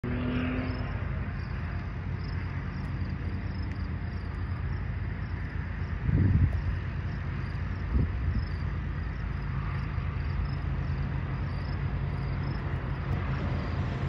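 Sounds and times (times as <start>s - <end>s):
diesel freight train rumble: 0.9s - 14.0s.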